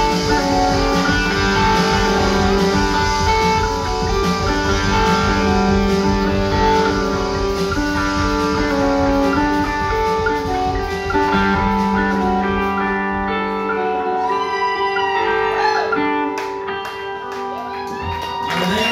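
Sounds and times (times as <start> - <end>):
bass: 0.0 - 18.9
drums: 0.0 - 18.9
electric guitars strumming: 0.0 - 18.9.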